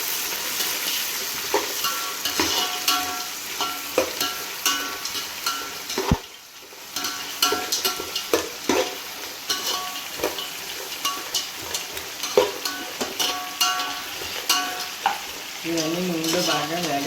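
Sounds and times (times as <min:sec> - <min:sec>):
onions sizzling in oil: 0:00.0 - 0:17.0
metal spoon clinking against pot: 0:00.6 - 0:06.2, 0:07.0 - 0:17.0.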